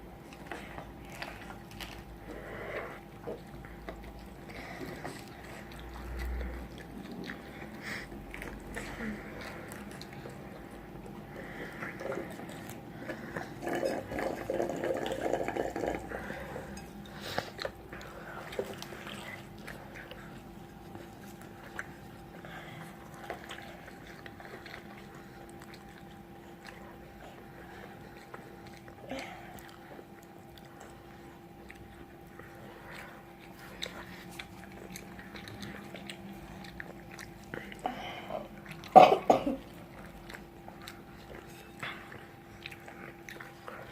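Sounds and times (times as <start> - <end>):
person chewing fried food: 0.0 - 43.9.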